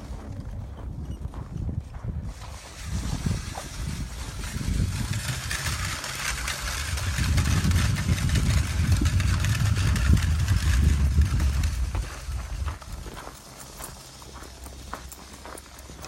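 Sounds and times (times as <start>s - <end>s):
low rumble: 0.0s - 15.2s
footsteps crunching through snow: 0.0s - 16.0s.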